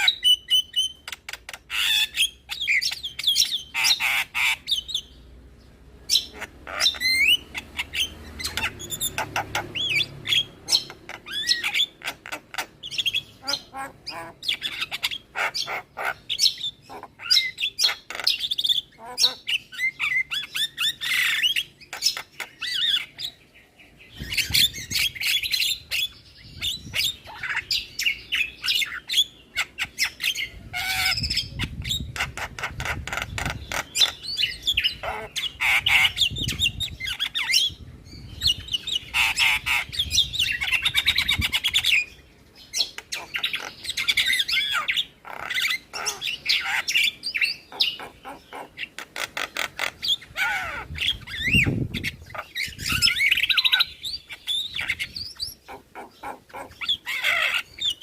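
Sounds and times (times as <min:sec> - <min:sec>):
mynas chattering and calling: 0:00.0 - 0:05.1, 0:06.1 - 0:23.4, 0:24.3 - 0:37.8, 0:38.5 - 0:58.0.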